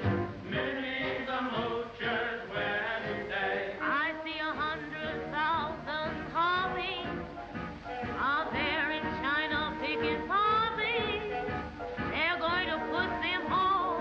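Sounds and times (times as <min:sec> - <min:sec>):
swing band music: 0:00.0 - 0:14.0.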